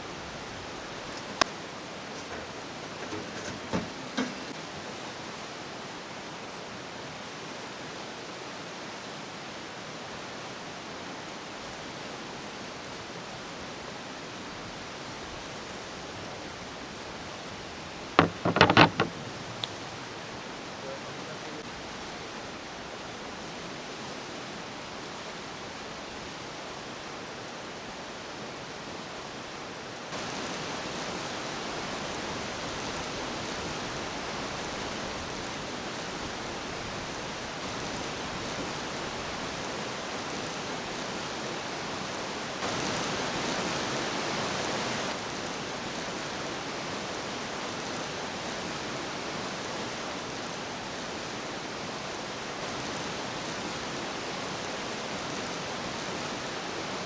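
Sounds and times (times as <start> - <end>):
steady hissing noise: 0.0 - 57.0.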